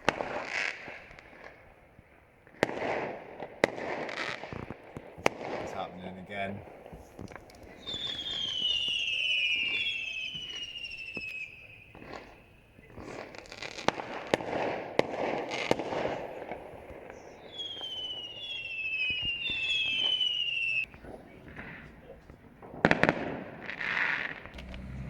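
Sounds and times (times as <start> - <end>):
fireworks whistling: 0.0 - 1.7, 2.5 - 25.0
fireworks bangs: 0.0 - 25.0
fireworks crackling: 0.0 - 25.0.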